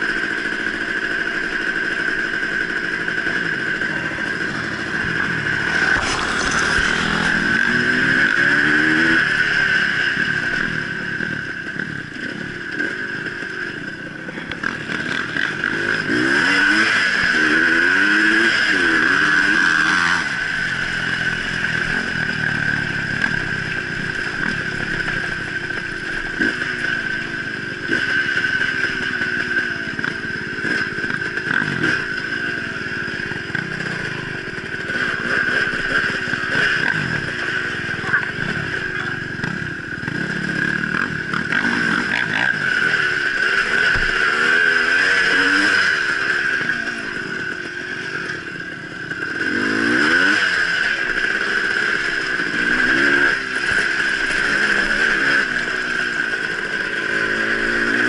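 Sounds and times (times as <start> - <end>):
dirt bike engine accelerating: 0.0 - 58.0.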